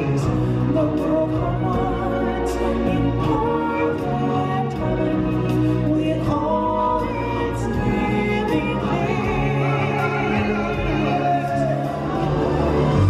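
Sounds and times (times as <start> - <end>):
orchestral accompaniment: 0.0 - 13.0
singers with vibrato: 0.0 - 13.0.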